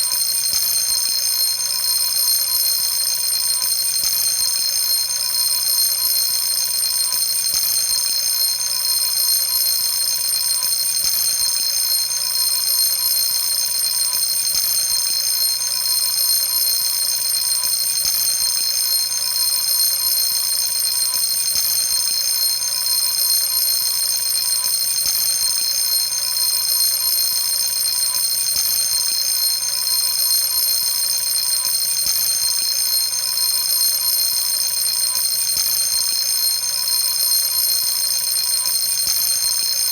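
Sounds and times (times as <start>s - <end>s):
fire alarm bell ringing: 0.0s - 39.9s.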